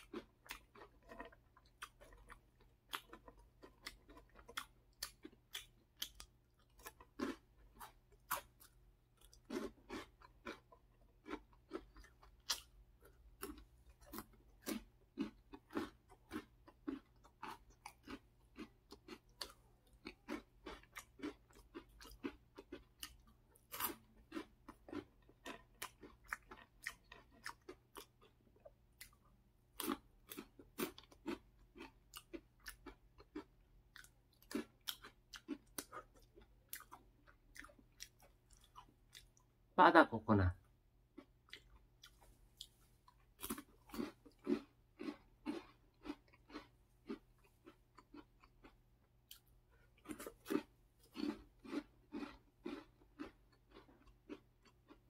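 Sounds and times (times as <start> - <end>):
crunchy chewing: 0.0 - 39.6, 41.1 - 55.0.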